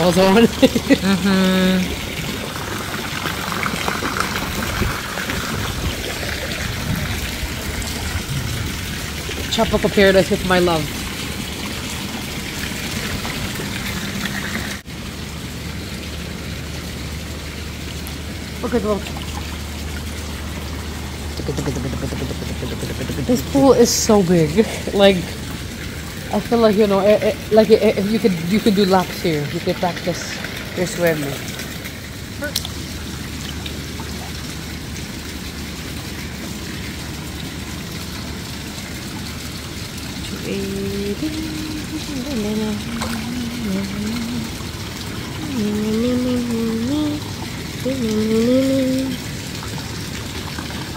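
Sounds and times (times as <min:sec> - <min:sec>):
pool water trickling and sloshing: 0:00.0 - 0:50.9.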